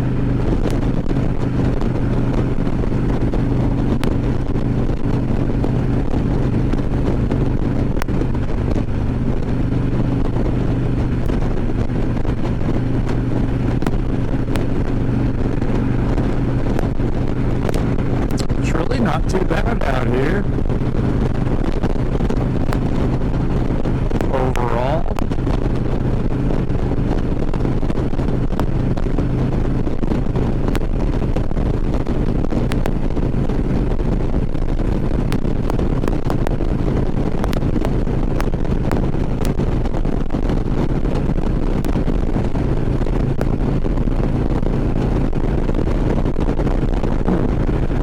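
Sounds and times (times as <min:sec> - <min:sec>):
motorcycle engine cruising: 0:00.0 - 0:48.0
wind rushing over microphone: 0:00.0 - 0:48.0.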